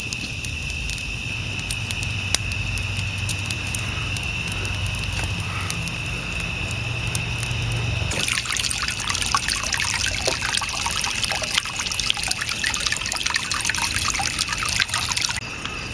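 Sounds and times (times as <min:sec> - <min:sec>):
water trickling and dripping: 0:00.0 - 0:15.9.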